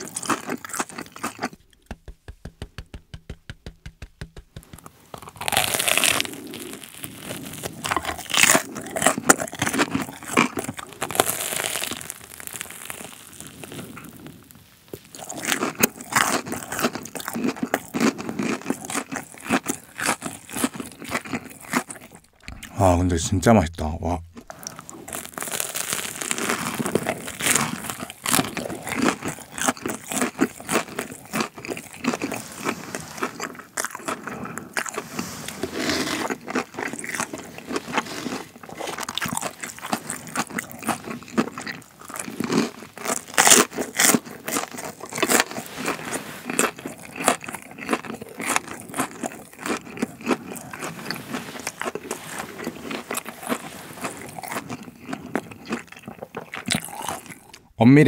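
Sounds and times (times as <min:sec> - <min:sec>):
crunching and chewing: 0:00.0 - 0:02.1, 0:04.6 - 0:23.0, 0:24.3 - 0:57.8.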